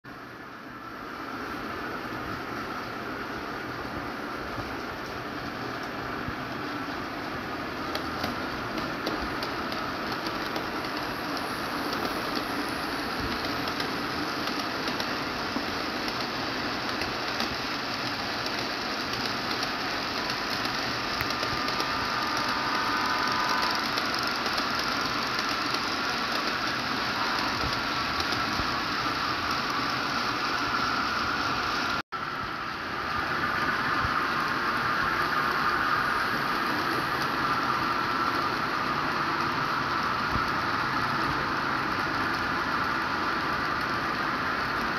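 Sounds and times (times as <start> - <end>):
model trains rolling on track: 0.1 - 44.9.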